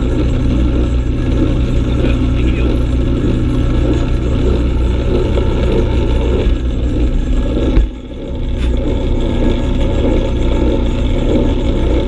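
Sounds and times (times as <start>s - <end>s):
metal lathe cutting: 0.0s - 12.0s.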